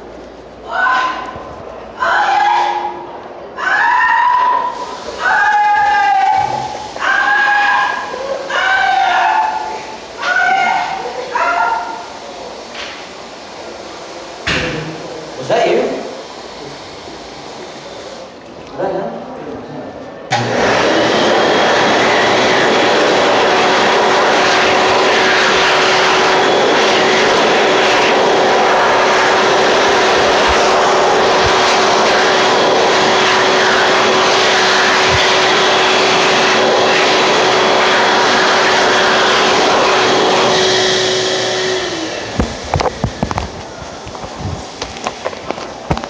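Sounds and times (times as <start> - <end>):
electric hand dryer running: 4.8 - 18.4, 20.3 - 46.0.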